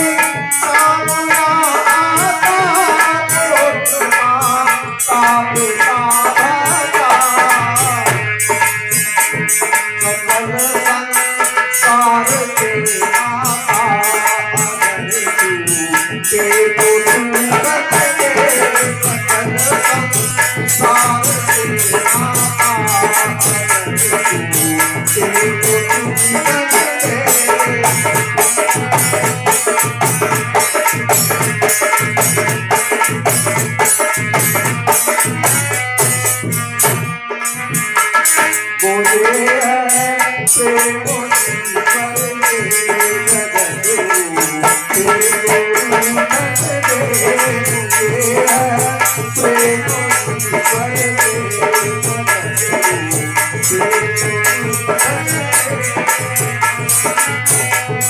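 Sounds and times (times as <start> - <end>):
dholak drum: 0.0 - 58.0.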